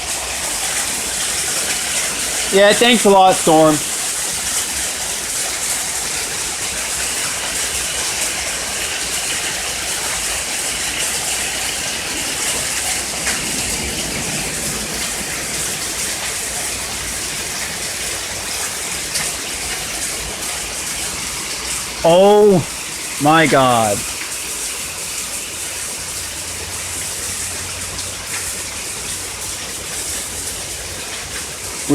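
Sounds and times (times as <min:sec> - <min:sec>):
hail and rain falling: 0:00.0 - 0:31.9.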